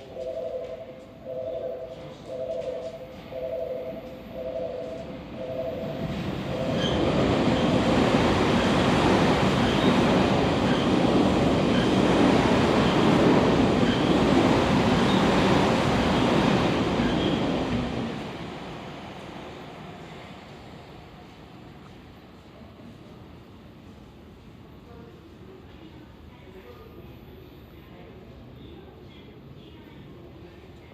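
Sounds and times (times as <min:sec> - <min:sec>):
train passing at speed: 0:00.0 - 0:30.9.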